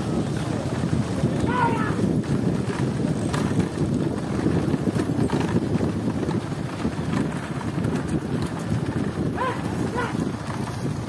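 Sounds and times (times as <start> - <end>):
cart rolling on dirt track: 0.0 - 11.0
wind noise on microphone: 0.0 - 11.0.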